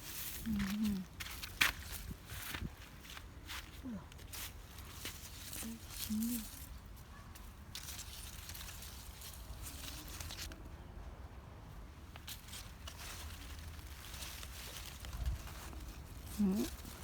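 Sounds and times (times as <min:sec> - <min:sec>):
rustling of plants being handled: 0:00.0 - 0:17.0.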